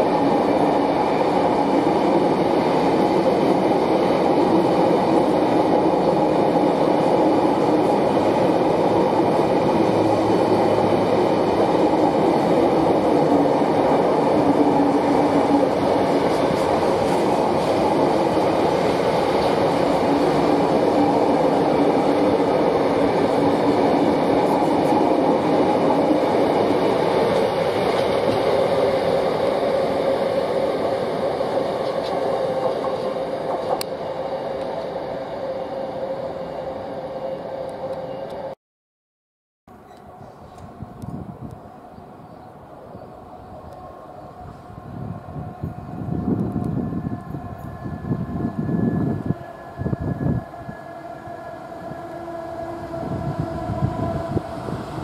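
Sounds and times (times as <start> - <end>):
train wheels rumbling on rails: 0.0 - 35.2, 39.8 - 55.0.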